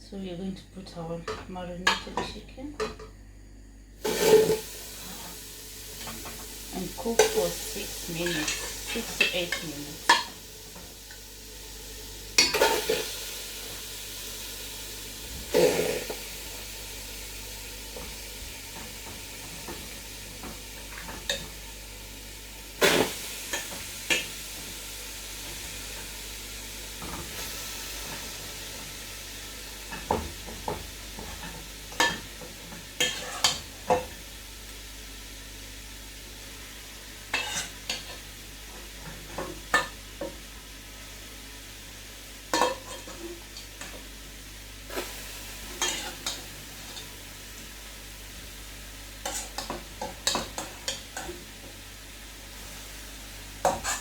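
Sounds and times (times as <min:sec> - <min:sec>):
chicken sizzling in a pan: 0:04.0 - 0:54.0.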